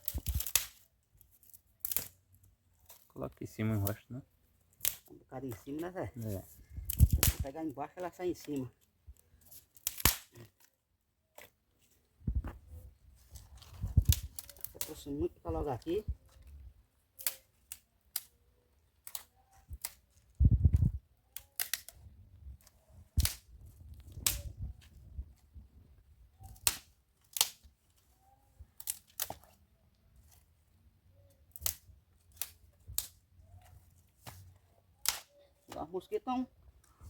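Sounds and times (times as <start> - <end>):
firewood clicks and cracks: 0.0 - 4.0, 4.6 - 6.0, 6.6 - 11.8, 13.3 - 25.1, 26.4 - 29.6, 31.2 - 35.9.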